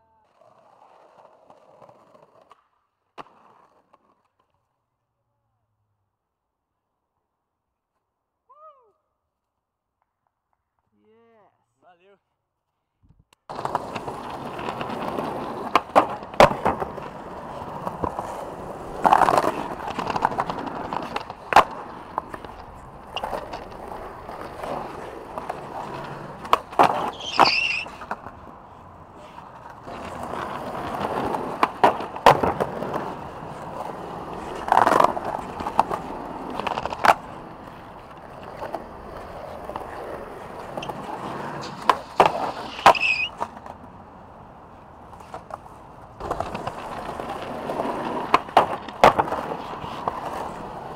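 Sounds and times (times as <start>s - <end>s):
skateboard wheels rolling on pavement: 0.0s - 5.2s, 12.6s - 50.9s
skateboard clacks: 0.2s - 4.7s, 13.4s - 50.9s.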